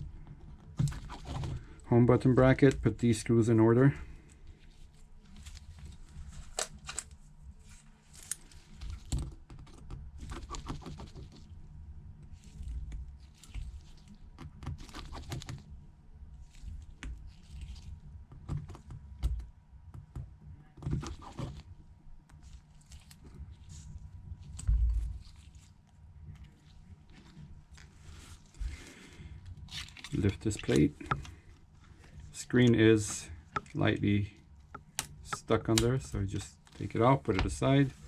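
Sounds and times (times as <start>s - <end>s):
steady low hum: 0.0s - 10.4s, 11.1s - 38.0s.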